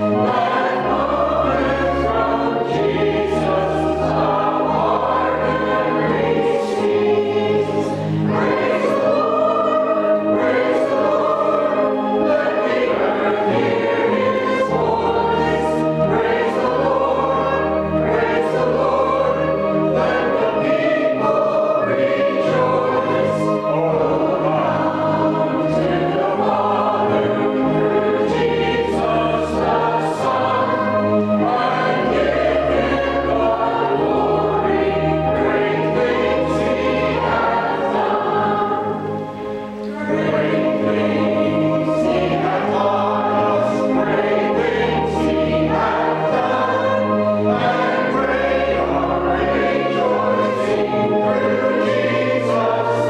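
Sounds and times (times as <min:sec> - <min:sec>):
church choir singing: 0:00.0 - 0:53.0.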